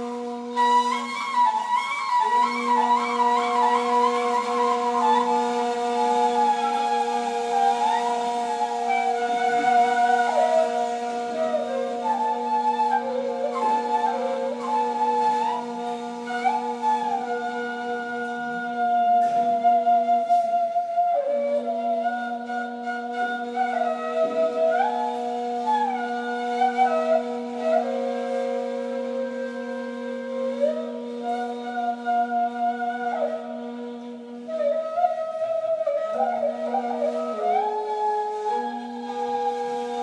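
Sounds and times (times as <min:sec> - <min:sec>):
flute improvised melody: 0:00.0 - 0:40.0
flute low drone note: 0:00.0 - 0:40.0.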